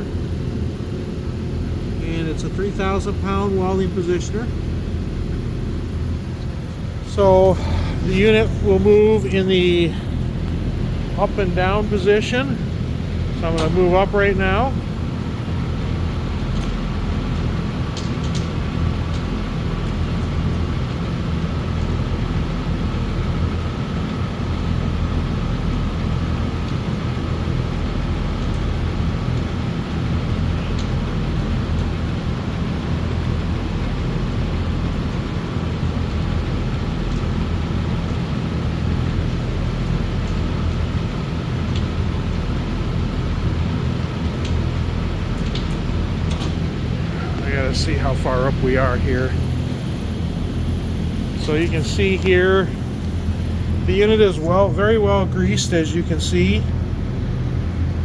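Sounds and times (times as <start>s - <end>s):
machine hum with high whine: 0.0s - 58.0s.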